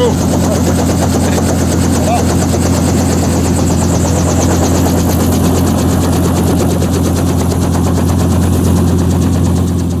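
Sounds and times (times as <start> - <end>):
helicopter low hum: 0.0 - 10.0
helicopter rotor chop: 0.0 - 10.0.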